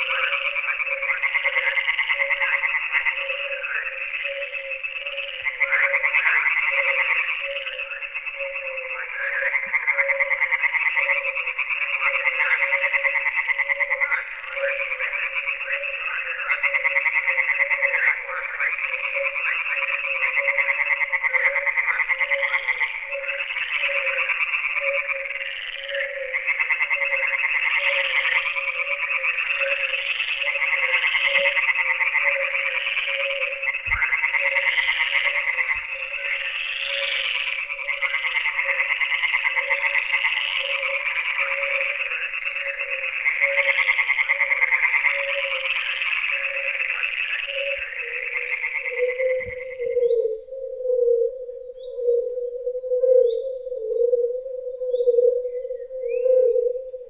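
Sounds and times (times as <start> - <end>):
chorus of frogs trilling: 0.0 - 57.0
low pulsing frog call: 0.0 - 57.0.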